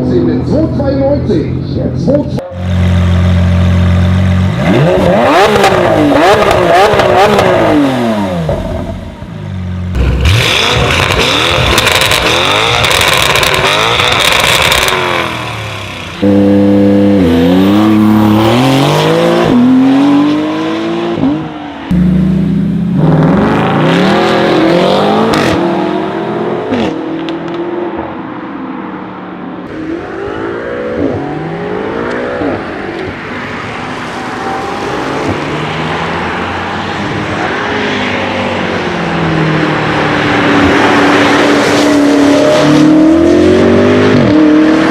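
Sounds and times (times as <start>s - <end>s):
car engines accelerating hard: 2.4s - 44.9s.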